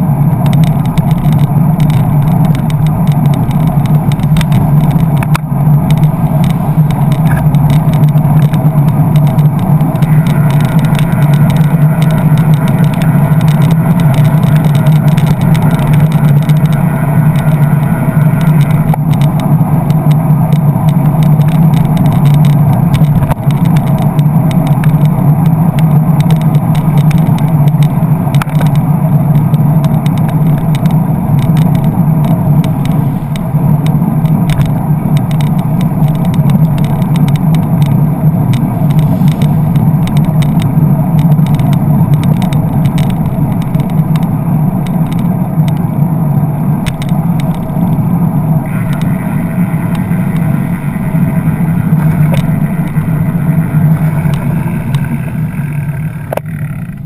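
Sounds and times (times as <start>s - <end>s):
road and wind rumble: 0.0s - 57.0s
vehicle engines: 0.0s - 57.0s.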